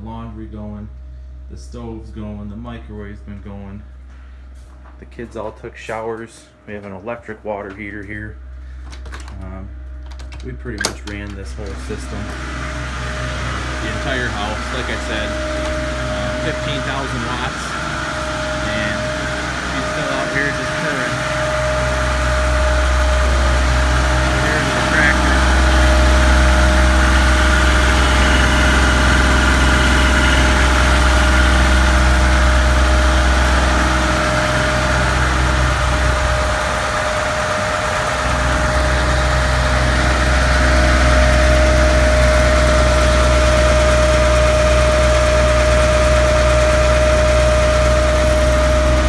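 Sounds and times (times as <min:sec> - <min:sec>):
generator high whine: 0:00.0 - 0:49.0
diesel engine rumble: 0:06.9 - 0:49.0.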